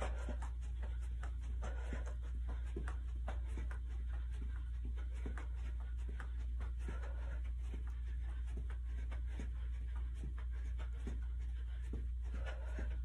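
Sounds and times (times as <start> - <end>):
footfalls on carpet: 0.0 - 13.0
steady low hum: 0.0 - 13.0.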